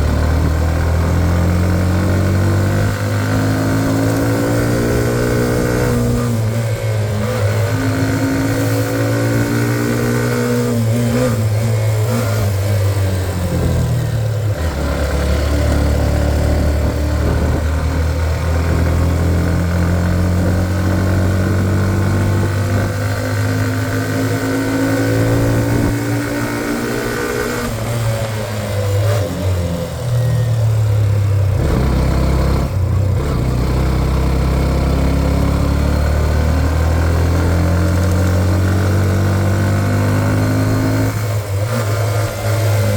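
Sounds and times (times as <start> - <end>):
motorcycle engine under load: 0.0 - 42.9.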